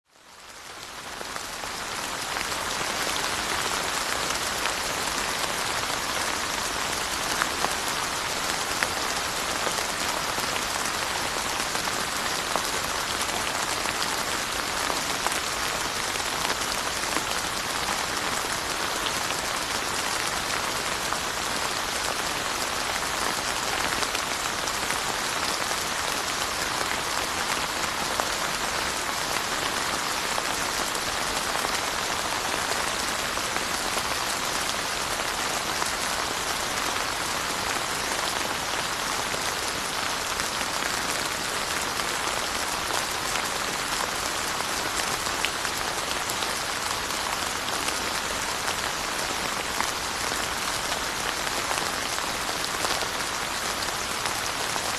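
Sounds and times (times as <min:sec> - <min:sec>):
rain falling on surfaces: 0:00.0 - 0:54.9.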